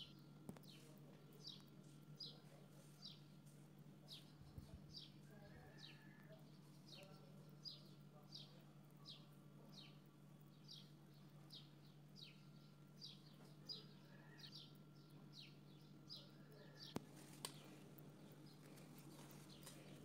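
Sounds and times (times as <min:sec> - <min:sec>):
faint bird chirping: 0:00.0 - 0:20.0
low steady hum: 0:00.0 - 0:20.0.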